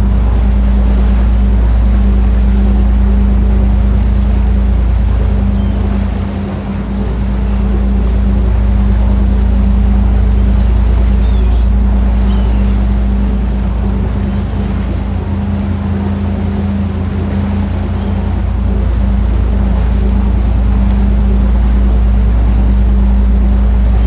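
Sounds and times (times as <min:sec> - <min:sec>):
boat engine rumbling: 0:00.0 - 0:24.0
sea wash: 0:00.0 - 0:24.0.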